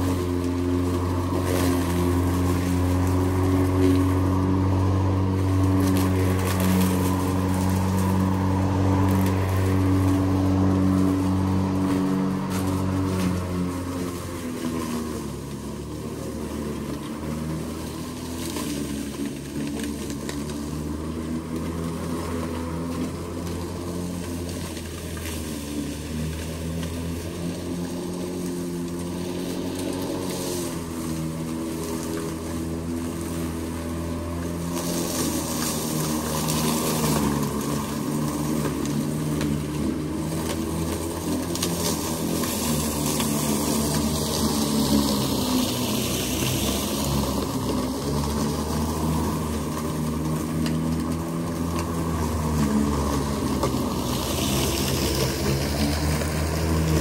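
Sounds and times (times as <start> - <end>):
electric lawn mower humming: 0.0 - 57.0.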